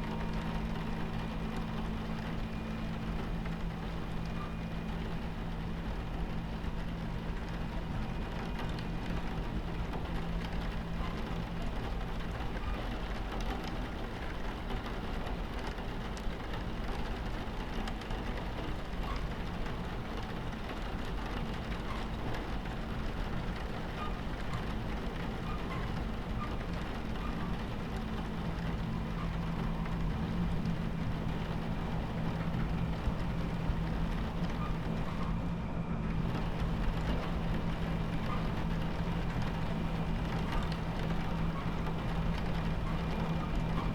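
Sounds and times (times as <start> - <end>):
rain against window: 0.0 - 43.9
train rumbling on tracks: 0.0 - 43.9.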